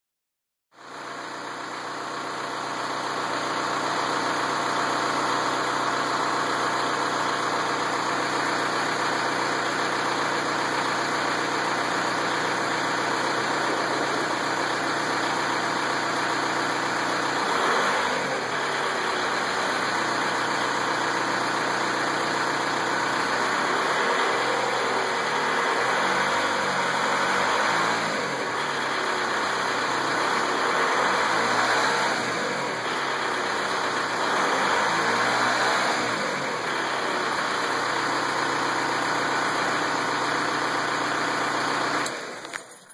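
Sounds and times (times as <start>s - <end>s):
diesel engine idling: 0.8s - 42.7s.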